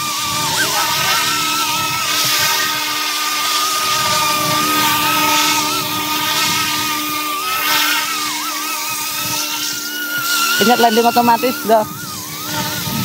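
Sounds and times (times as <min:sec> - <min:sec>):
rc helicopter rotors whining: 0:00.0 - 0:13.0.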